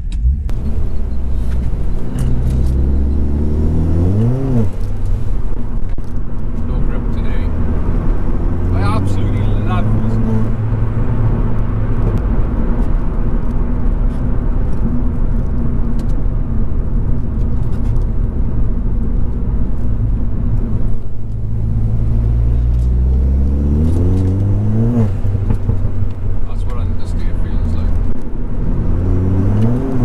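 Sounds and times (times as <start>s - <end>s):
car engine revving: 0.0s - 30.0s
road noise: 0.0s - 30.0s.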